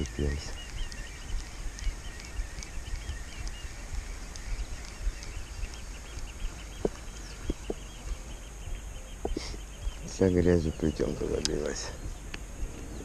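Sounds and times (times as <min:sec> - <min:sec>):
small birds chirping: 0:00.0 - 0:13.0
wind rumbling on microphone: 0:00.0 - 0:13.0.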